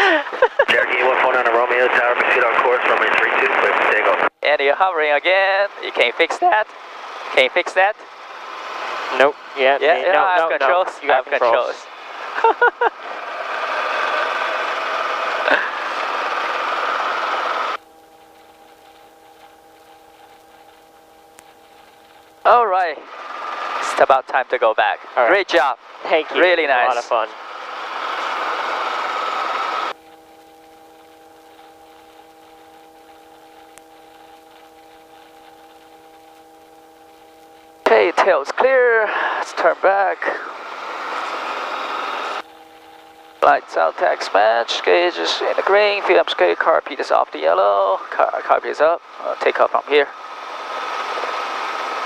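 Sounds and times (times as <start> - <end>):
faint steady hum: 0.0 - 52.0
helicopter engine and rotor: 4.5 - 35.6, 36.6 - 47.6, 48.2 - 52.0.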